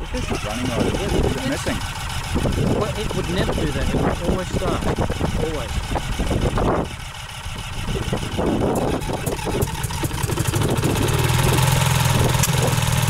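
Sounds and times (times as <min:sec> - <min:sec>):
two-stroke engine running unevenly: 0:00.0 - 0:13.0.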